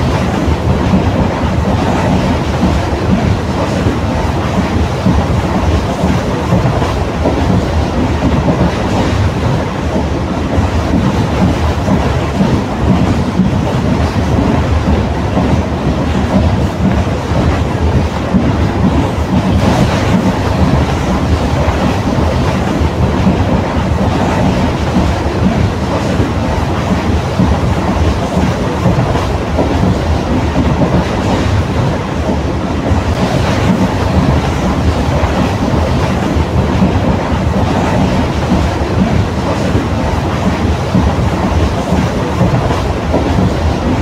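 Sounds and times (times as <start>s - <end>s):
train wheels clattering on rails: 0.0s - 44.0s.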